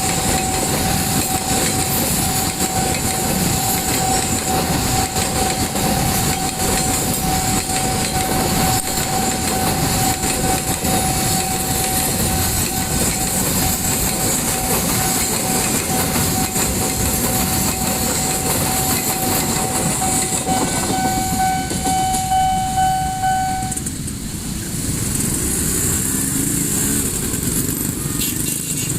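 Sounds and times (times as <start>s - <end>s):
steady high tone: 0.0s - 24.1s
train wheels clattering: 0.0s - 24.2s.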